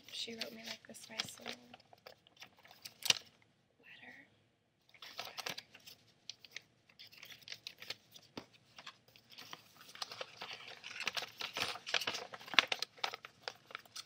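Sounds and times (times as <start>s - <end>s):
paper rustling and crackling: 0.0s - 3.4s, 4.9s - 14.0s.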